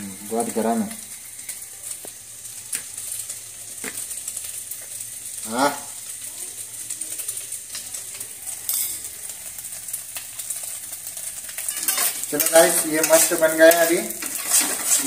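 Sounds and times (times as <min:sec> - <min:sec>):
egg sizzling in a wok: 0:00.0 - 0:15.0.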